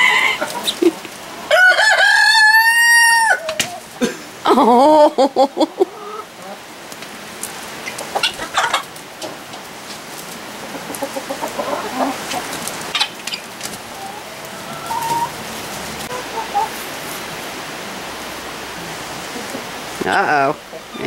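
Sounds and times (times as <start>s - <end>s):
chickens clucking: 0.0s - 18.1s, 18.7s - 21.0s.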